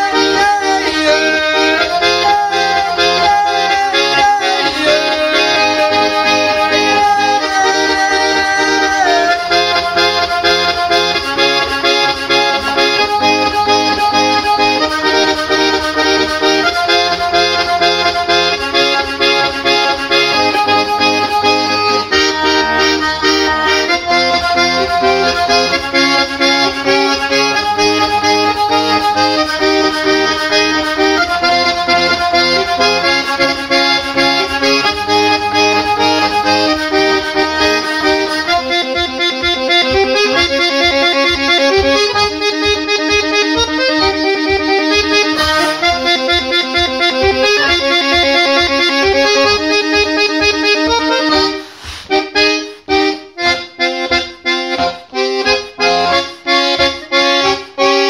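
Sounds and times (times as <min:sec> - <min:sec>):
button accordion playing folk tune: 0:00.0 - 0:58.0.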